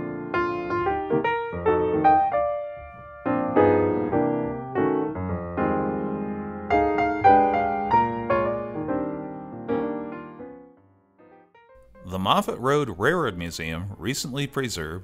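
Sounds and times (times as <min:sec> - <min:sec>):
piano music: 0:00.0 - 0:14.1.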